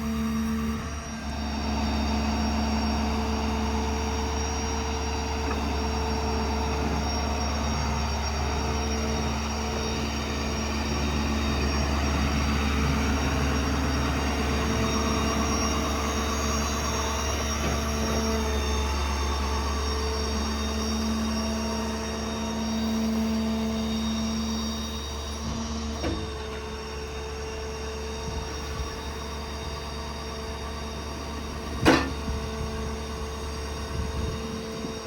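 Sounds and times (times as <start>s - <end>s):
diesel engine driving hydraulic pump: 0.0s - 35.0s.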